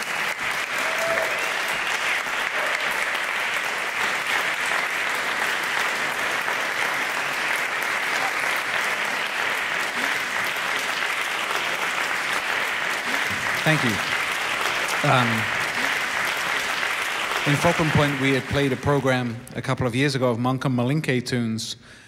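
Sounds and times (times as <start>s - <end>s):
audience applauding: 0.0s - 19.7s.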